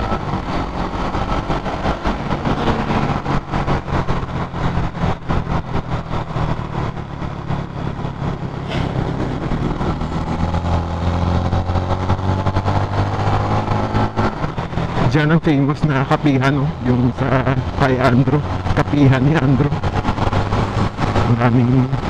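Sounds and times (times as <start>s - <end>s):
wind buffeting microphone: 0.0s - 15.9s, 19.6s - 22.0s.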